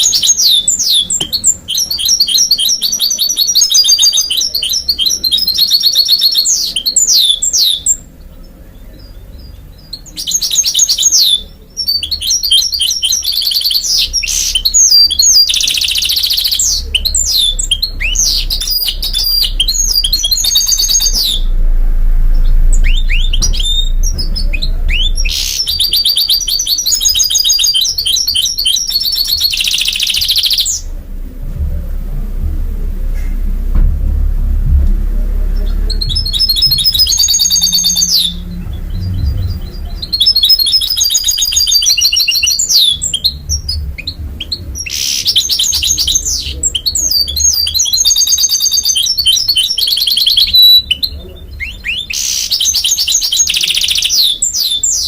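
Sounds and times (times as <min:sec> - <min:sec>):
finch singing trills: 0:00.0 - 0:30.9, 0:35.4 - 0:55.0.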